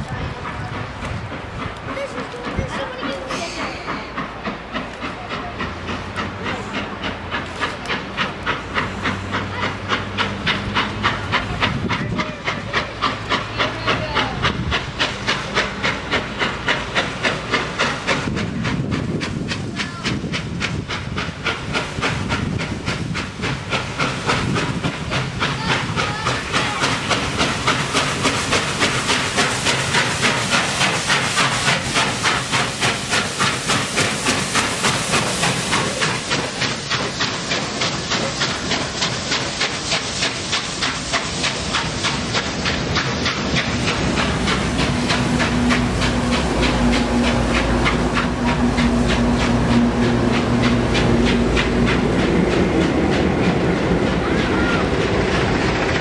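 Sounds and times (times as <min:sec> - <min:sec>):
hissing steam: 0:00.0 - 0:56.0
steam locomotive exhaust chuffs: 0:00.0 - 0:56.0.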